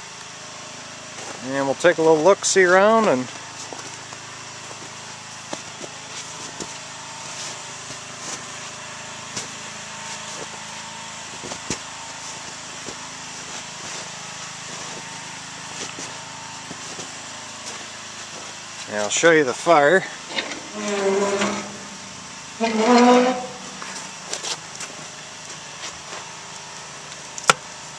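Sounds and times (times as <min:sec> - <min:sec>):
generator engine running: 0:00.0 - 0:27.9.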